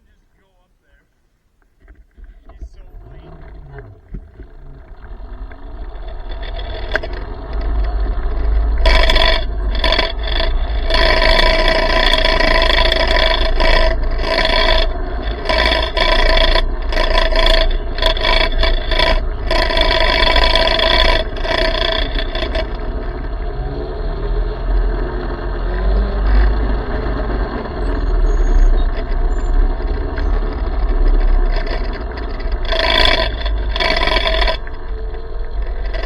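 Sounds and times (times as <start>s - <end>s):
electric motor whining: 1.8s - 36.0s
steady low rumble: 2.2s - 36.0s.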